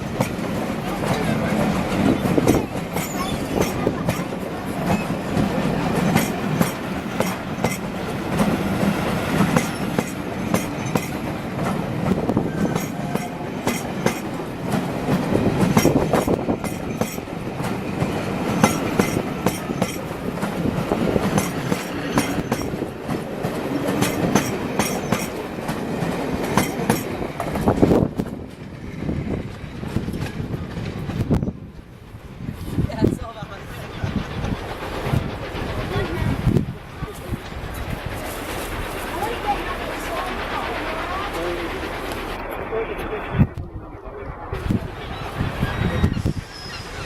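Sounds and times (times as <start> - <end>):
train wheels clicking over rail joints: 0.0 - 32.0, 33.6 - 42.4
train rumble: 0.0 - 47.0.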